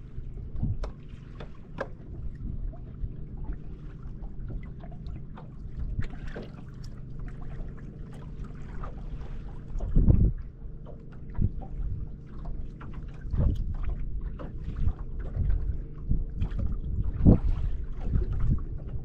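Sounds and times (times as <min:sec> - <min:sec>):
waves slapping hull: 0:00.0 - 0:19.0.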